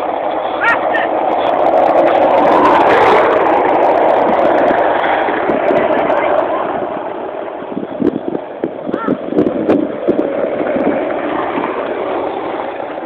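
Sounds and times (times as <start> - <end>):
skateboard wheels rolling on asphalt: 0.0 - 13.0
wind on microphone: 0.0 - 13.0.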